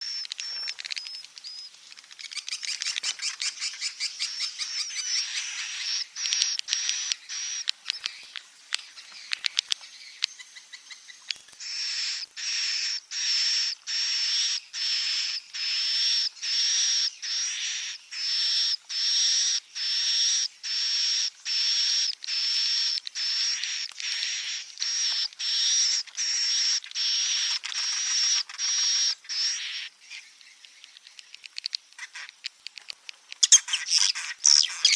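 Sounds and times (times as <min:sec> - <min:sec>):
buzzy high-pitched chirps: 0:00.0 - 0:32.5, 0:33.4 - 0:34.9
rapid clicking twitter: 0:00.0 - 0:34.9.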